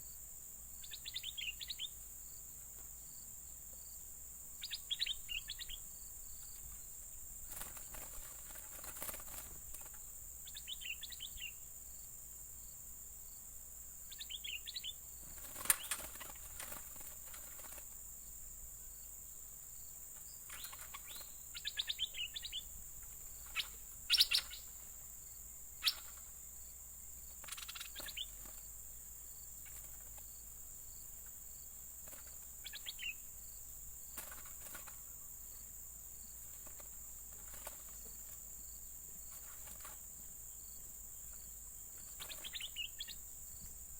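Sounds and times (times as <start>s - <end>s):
high insect drone: 0.0s - 43.9s
birds chirping in bursts: 0.8s - 2.4s, 4.6s - 11.7s, 14.0s - 43.3s.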